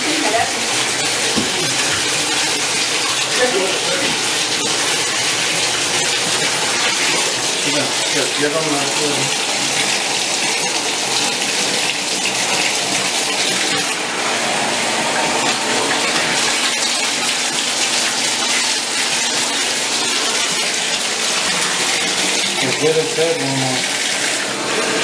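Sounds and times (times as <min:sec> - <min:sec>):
tap running into bathtub: 0:00.0 - 0:14.1, 0:14.7 - 0:25.0.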